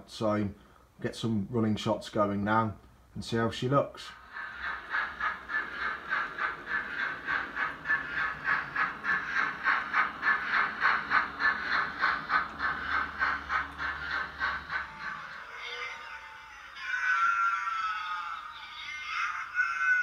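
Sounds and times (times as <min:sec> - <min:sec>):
model steam locomotive chuffing: 0:04.0 - 0:20.0.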